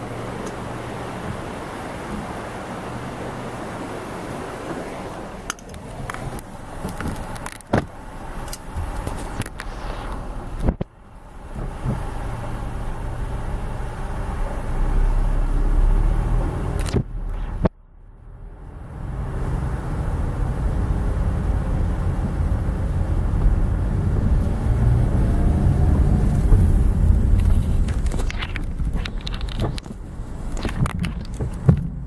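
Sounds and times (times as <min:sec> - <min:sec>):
car engine and tyres rumbling: 0:00.0 - 0:32.0.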